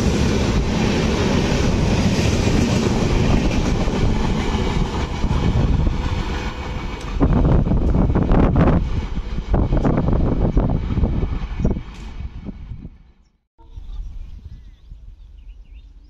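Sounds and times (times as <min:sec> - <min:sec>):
train coaches rushing past: 0:00.0 - 0:12.9
wind buffeting microphone: 0:00.0 - 0:16.0.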